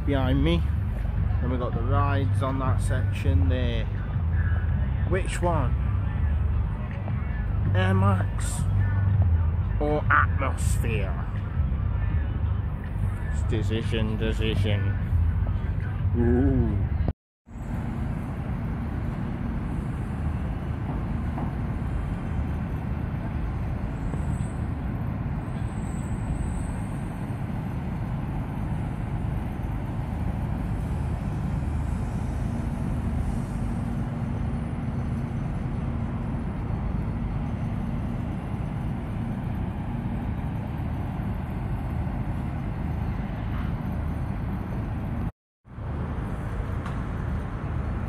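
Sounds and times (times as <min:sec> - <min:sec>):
distant ride machinery rumble: 0:00.0 - 0:48.0.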